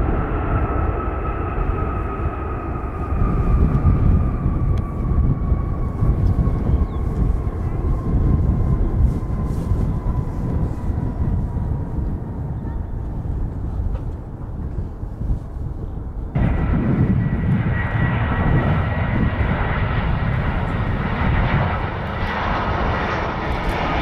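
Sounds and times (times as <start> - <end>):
jet engines rumbling and whining: 0.0 - 24.0.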